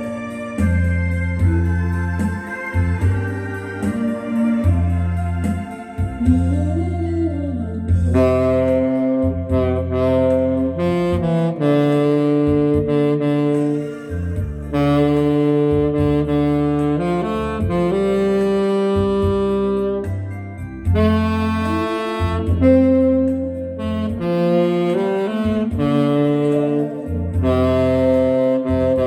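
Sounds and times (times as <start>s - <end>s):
backing track with bass line: 0.0s - 29.0s
saxophone melody: 0.0s - 29.0s.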